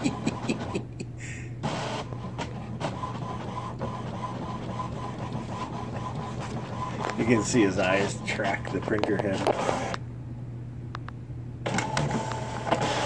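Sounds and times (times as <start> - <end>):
printer print head whirring and clicking: 0.0 - 0.8, 1.6 - 10.0, 11.6 - 13.0.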